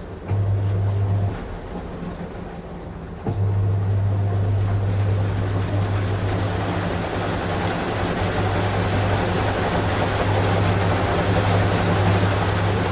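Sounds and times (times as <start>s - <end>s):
washing machine churning: 0.0s - 12.9s
washing machine motor hum: 0.0s - 12.9s.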